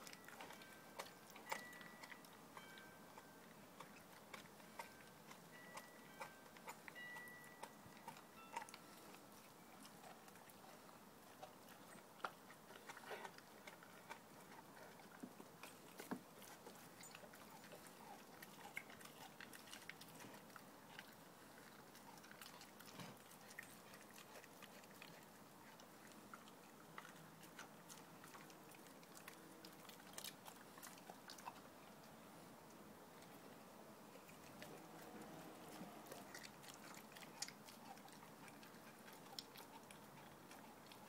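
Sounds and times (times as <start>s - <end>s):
dog chewing meat: 0.0s - 32.3s, 33.1s - 41.0s.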